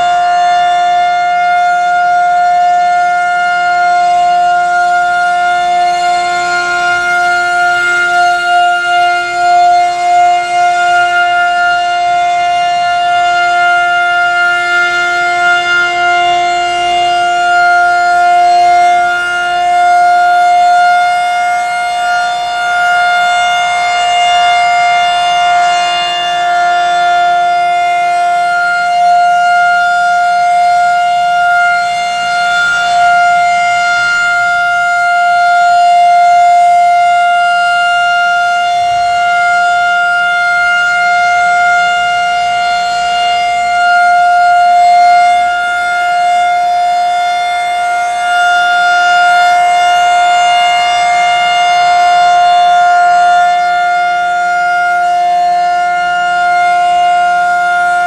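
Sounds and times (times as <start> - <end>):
rotating warning siren: 0.0 - 58.0.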